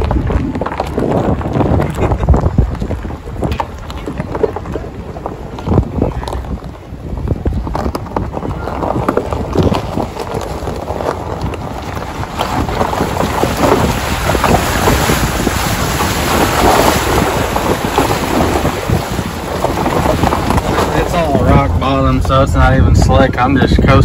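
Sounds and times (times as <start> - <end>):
tyres crunching over gravel: 0.0 - 23.0
tyres rolling through puddle: 0.0 - 24.0
wind rumbling on microphone: 0.0 - 24.0.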